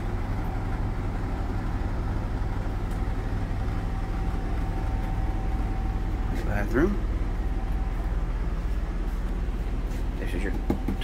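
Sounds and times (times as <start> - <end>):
faint steady whine: 0.0 - 11.0
low machinery hum: 0.0 - 11.0.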